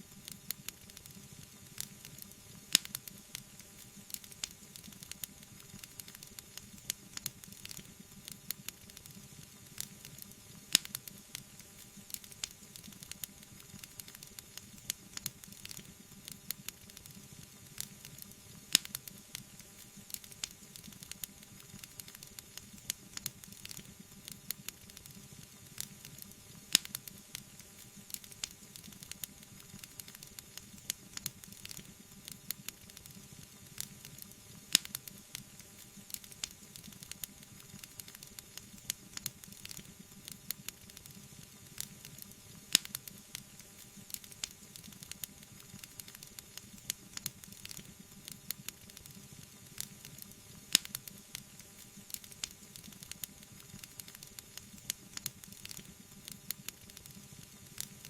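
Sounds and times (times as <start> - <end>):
wood fire hissing and crackling: 0.0 - 58.0.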